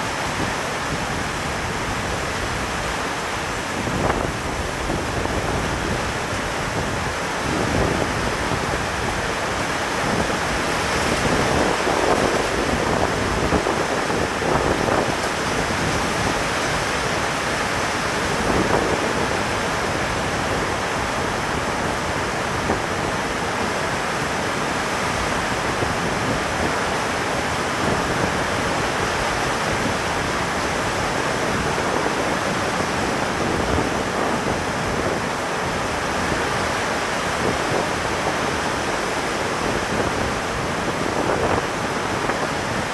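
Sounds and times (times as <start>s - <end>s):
rain falling steadily: 0.0s - 42.9s.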